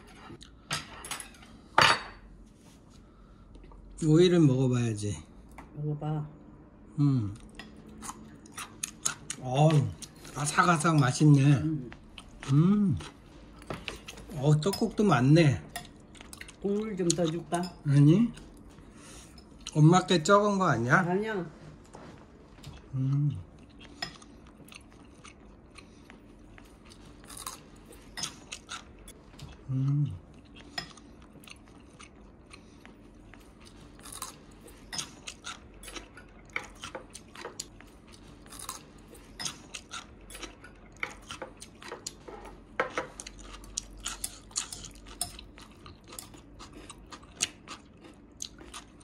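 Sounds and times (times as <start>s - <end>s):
chewing and crunching salad: 7.2s - 20.6s, 21.8s - 49.0s.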